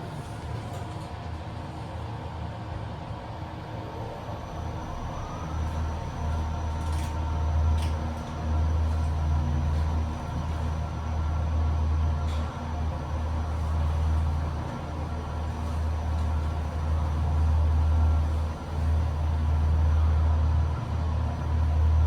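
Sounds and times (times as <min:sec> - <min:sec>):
elevator hum and rumble: 0:00.0 - 0:22.0.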